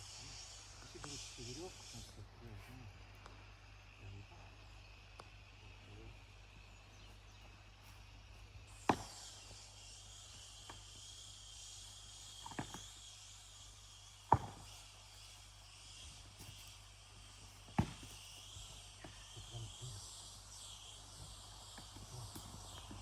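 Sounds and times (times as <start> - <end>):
faint high hiss: 0.0 - 23.0.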